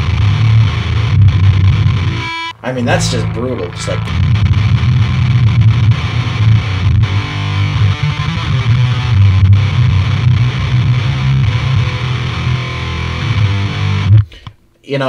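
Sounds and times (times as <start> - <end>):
distorted electric guitar riffs: 0.0 - 14.5.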